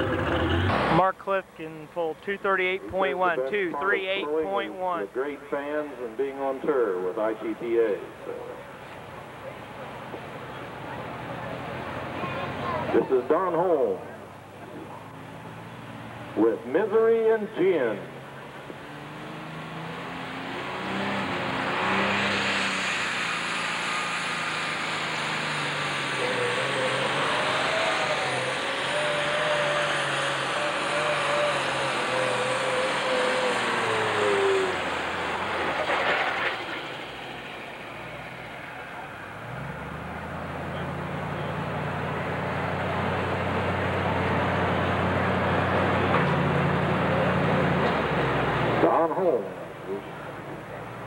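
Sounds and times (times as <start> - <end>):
high turbo whine: 0.0 - 51.0
tractor engine revving: 0.0 - 51.0.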